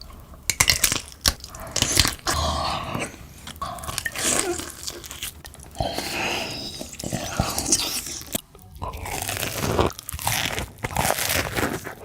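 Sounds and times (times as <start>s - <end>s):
food crunching while chewed: 0.0s - 12.0s
crunchy bites: 0.5s - 12.0s.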